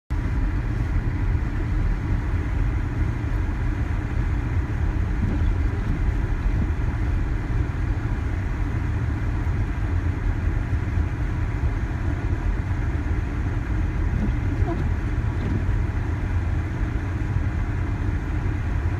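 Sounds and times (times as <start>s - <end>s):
car engine and tyres rumbling: 0.1s - 18.9s.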